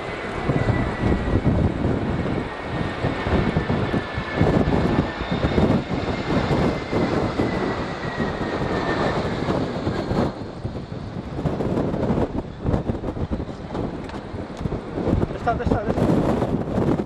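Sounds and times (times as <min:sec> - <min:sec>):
jet engine whine: 0:00.0 - 0:17.0
wind buffeting microphone: 0:00.0 - 0:17.0.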